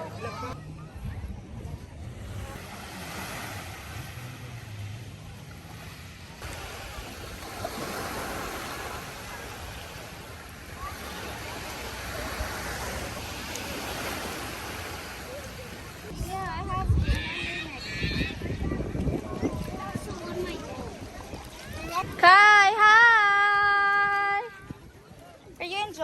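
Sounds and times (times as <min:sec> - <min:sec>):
faint voices: 0:00.0 - 0:26.0
wind: 0:00.0 - 0:26.0
sea surf: 0:01.7 - 0:26.0.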